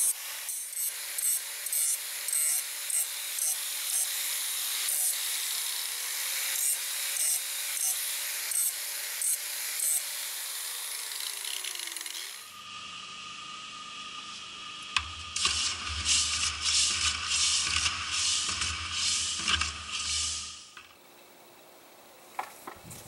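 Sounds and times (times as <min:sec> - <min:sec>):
angle grinder grinding steel: 0:00.0 - 0:20.8.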